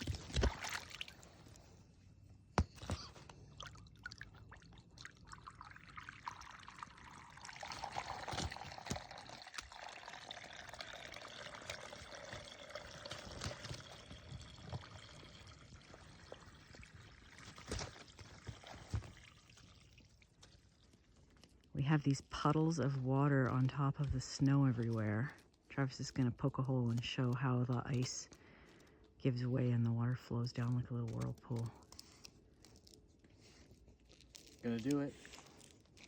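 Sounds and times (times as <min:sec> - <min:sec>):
ice crackling: 0:00.0 - 0:01.8, 0:02.6 - 0:36.0
water trickling through ice: 0:00.0 - 0:01.9, 0:02.8 - 0:36.0.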